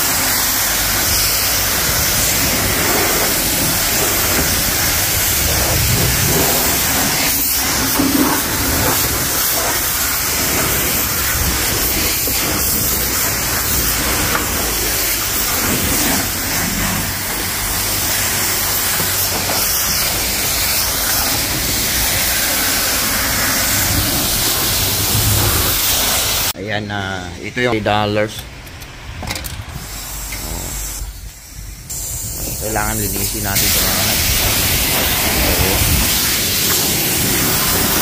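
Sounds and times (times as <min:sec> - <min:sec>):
pressure washer spraying water: 0:00.0 - 0:26.6, 0:29.7 - 0:38.0.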